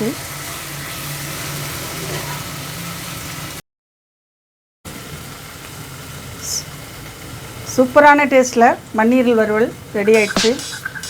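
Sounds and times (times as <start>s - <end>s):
food sizzling in oil: 0.0s - 3.6s, 4.9s - 8.4s, 9.1s - 11.0s.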